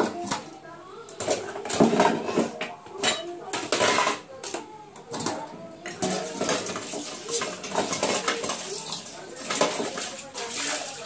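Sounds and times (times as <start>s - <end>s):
pots and plates clattering: 1.2s - 11.0s.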